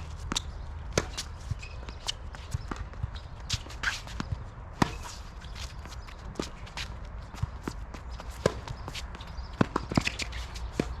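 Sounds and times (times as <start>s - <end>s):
shuffling footsteps on a court: 0.0s - 11.0s.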